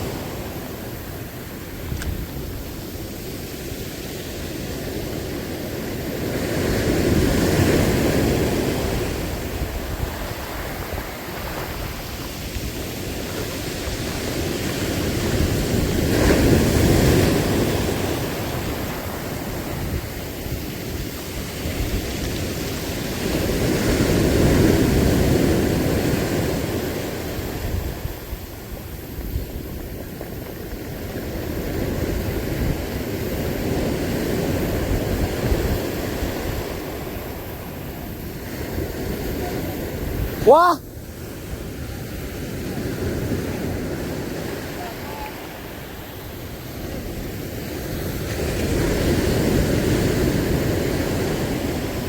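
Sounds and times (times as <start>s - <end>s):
background surf: 0.0s - 52.0s
sea waves surging on shore: 0.0s - 52.0s.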